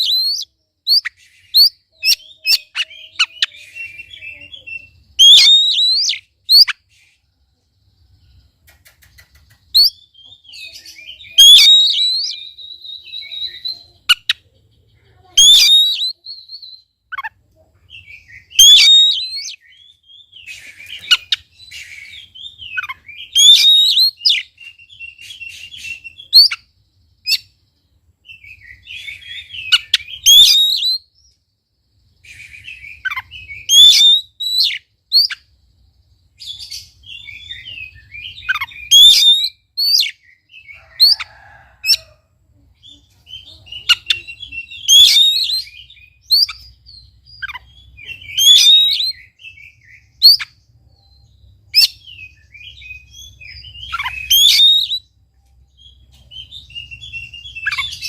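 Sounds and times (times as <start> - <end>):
bird whistling song phrases: 0.0 - 7.3, 9.2 - 14.4, 15.3 - 17.3, 17.9 - 27.6, 28.2 - 31.4, 32.2 - 35.5, 36.4 - 42.1, 42.8 - 55.2, 55.8 - 58.0
bird twittering and chattering: 0.0 - 58.0.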